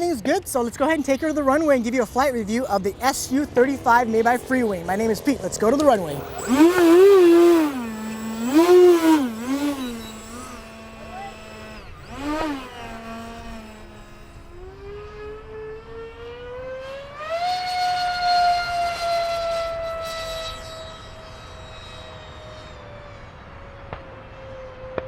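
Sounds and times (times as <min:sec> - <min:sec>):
ducted fan whining: 0:00.0 - 0:25.0.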